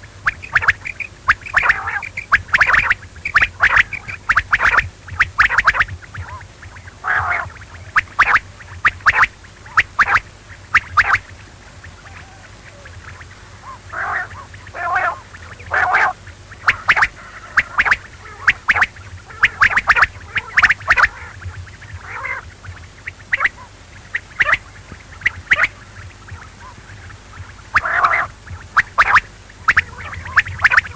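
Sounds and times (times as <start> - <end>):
quail calling: 0.0 - 30.9.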